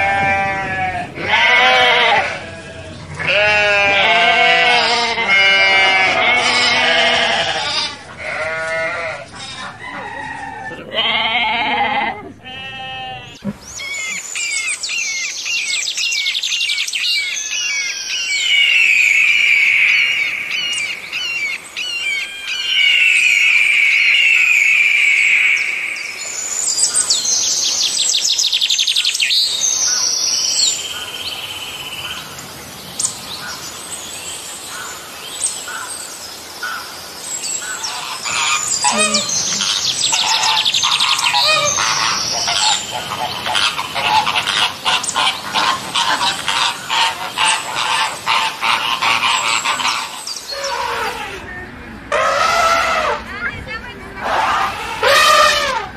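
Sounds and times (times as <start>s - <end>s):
birds chirping and trilling: 0.0s - 55.9s.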